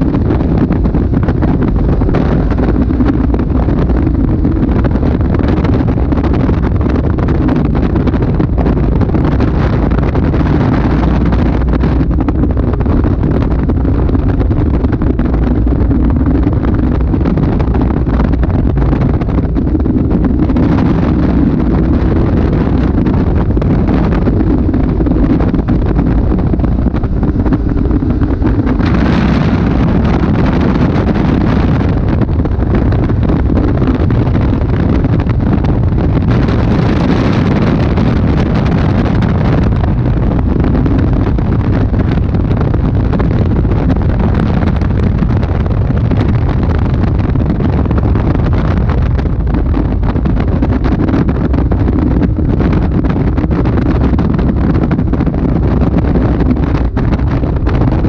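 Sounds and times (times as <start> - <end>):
sports car engine running: 0.0 - 58.0
wind buffeting on microphone: 0.0 - 58.0.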